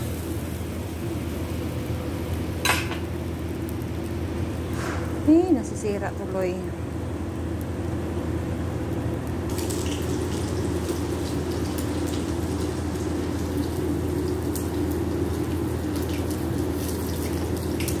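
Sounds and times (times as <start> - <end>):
batter sizzling in a frying pan: 0.0 - 18.0.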